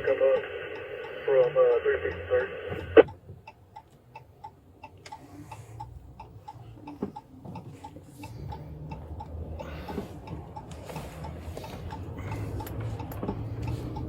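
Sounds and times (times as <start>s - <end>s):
engine and road rumble: 0.0s - 14.0s
turn signal ticking: 0.0s - 14.0s.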